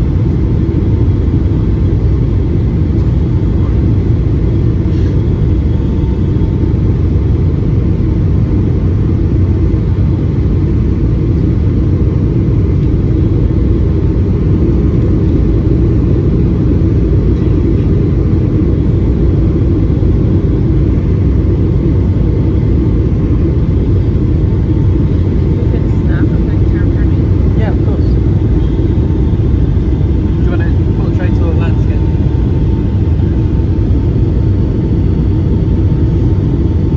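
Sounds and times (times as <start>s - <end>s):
jet cabin drone: 0.0s - 36.9s.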